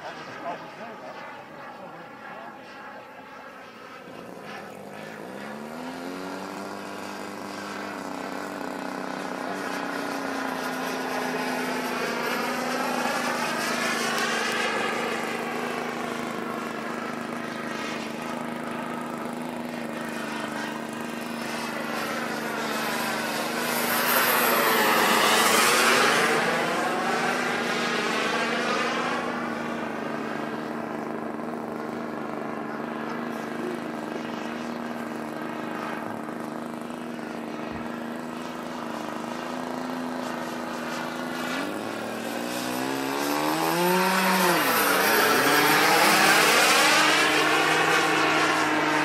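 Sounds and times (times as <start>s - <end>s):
model jet engine whine: 0.0s - 49.0s.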